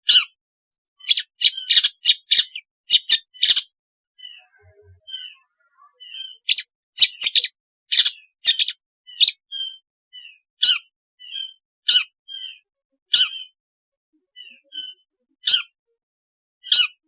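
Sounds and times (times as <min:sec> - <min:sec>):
bird harsh rasping calls: 0:00.0 - 0:00.4, 0:01.0 - 0:13.6, 0:14.4 - 0:15.8, 0:16.6 - 0:17.0
soft thin bird chirps: 0:01.0 - 0:13.6, 0:14.2 - 0:15.8.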